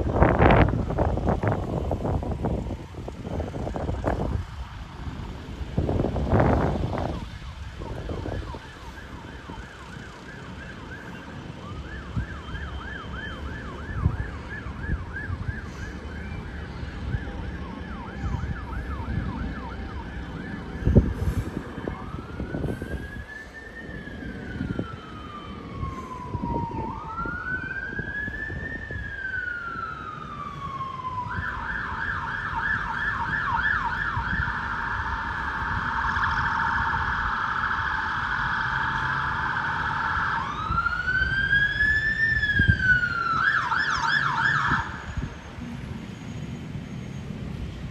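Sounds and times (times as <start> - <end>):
fire engine siren: 0.0 - 47.9.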